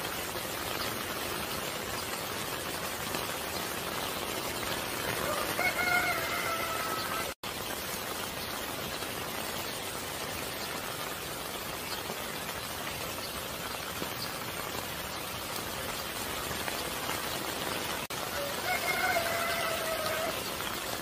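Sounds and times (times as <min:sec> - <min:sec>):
rain on leaves and soil: 0:00.0 - 0:21.0.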